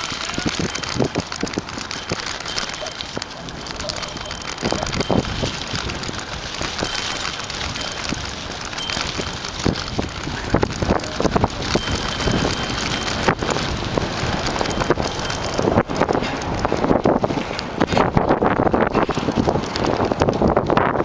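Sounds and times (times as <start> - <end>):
bike knocking and rattling: 0.0 - 21.0
wind rushing over microphone: 0.0 - 21.0.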